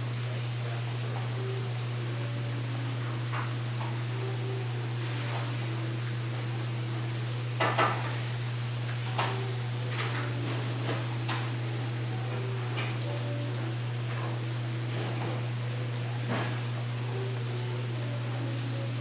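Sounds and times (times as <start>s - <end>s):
rain hissing on a roof: 0.0s - 19.0s.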